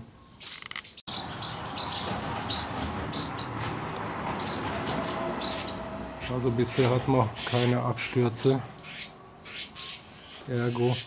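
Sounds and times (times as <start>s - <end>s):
swallows twittering: 0.3s - 3.6s, 4.4s - 11.0s.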